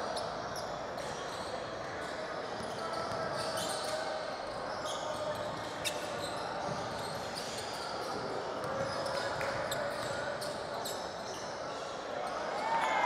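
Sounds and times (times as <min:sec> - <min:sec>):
faint background chatter: 0:00.0 - 0:13.0
sneakers squeaking on floor: 0:00.1 - 0:12.0.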